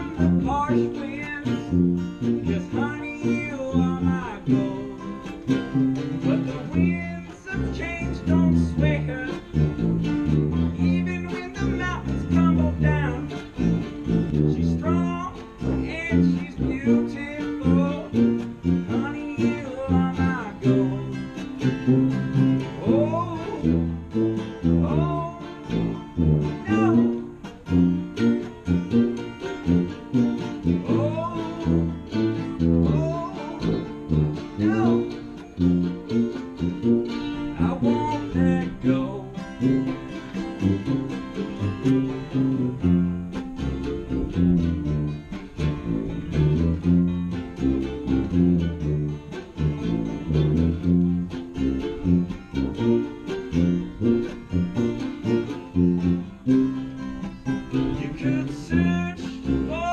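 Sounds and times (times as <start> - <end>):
guitar strumming: 0.0 - 59.9
tuba bass line: 0.0 - 59.9.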